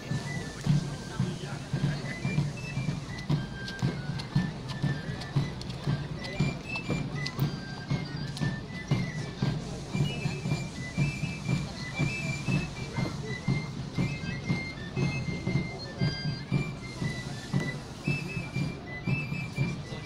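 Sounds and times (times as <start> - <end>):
high whistle-like pipe melody: 0.0 - 20.0
steady drum beat: 0.0 - 20.0.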